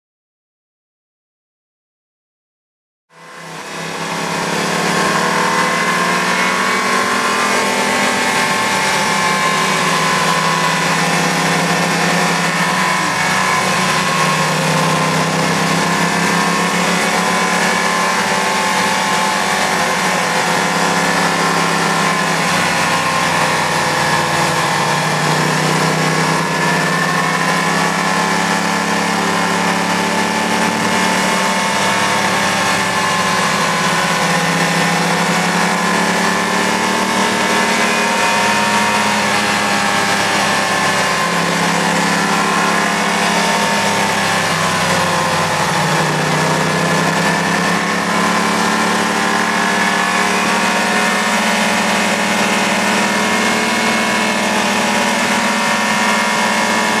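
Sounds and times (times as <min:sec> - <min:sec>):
motorcycle engine running: 0:03.1 - 0:57.0.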